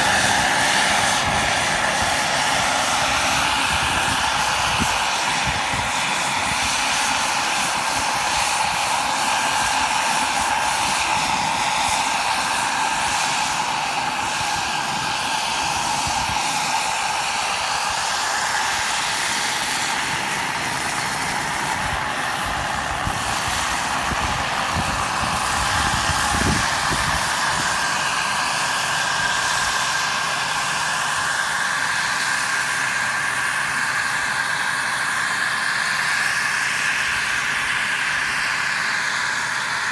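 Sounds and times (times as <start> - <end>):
model helicopter engine whine: 0.0 - 39.9
rotor and airflow hiss: 0.0 - 39.9.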